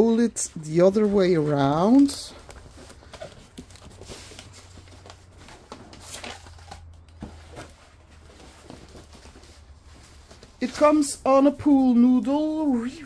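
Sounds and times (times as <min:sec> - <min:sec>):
plastic canvas rustling: 0:00.0 - 0:13.0.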